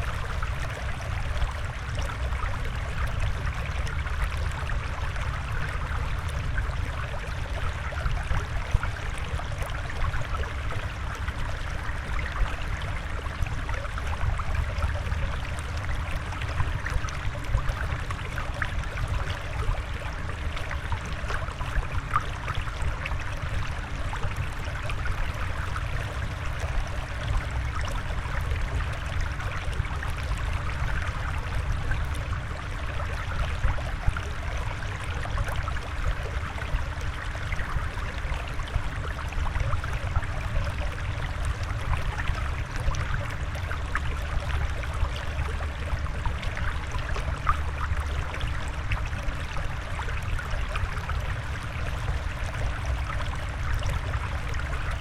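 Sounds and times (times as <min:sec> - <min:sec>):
trickling stream: 0:00.0 - 0:55.0.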